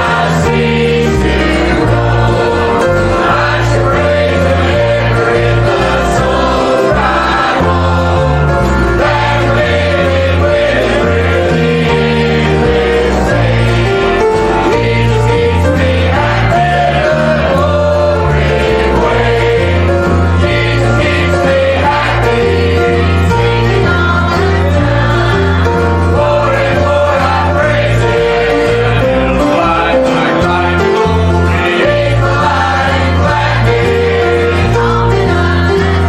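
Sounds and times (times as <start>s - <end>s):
choir singing: 0.0s - 36.0s
instrumental accompaniment: 0.0s - 36.0s.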